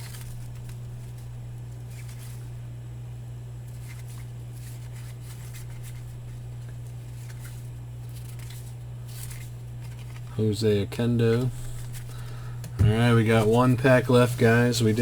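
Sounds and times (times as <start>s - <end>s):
cards swishing by hand: 0.0s - 2.5s, 3.6s - 10.3s, 11.3s - 15.0s
steady low hum: 0.0s - 15.0s.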